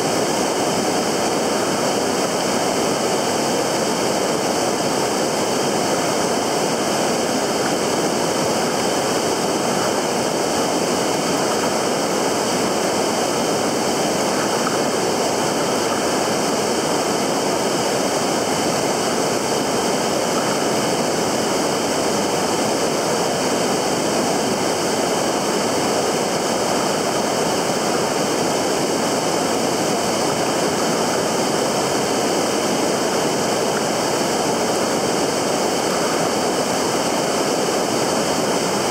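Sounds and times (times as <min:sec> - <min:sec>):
flowing river water: 0:00.0 - 0:38.9.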